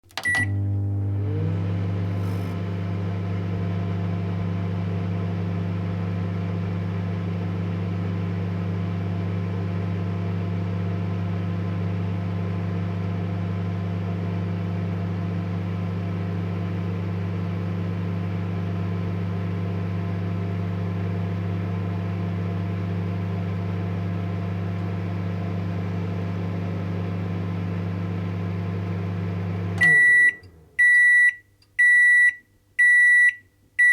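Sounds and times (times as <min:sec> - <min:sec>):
microwave oven humming: 0:00.1 - 0:33.9.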